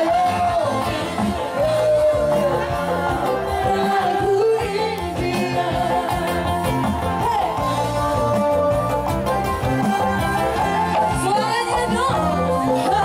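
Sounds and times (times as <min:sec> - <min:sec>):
live band music: 0:00.0 - 0:13.0
repeating bass line: 0:00.0 - 0:13.0.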